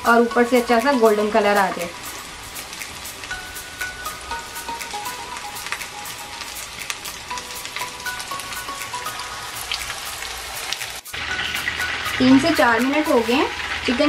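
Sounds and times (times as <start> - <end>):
oil sizzling with crackles: 0.0 - 14.0.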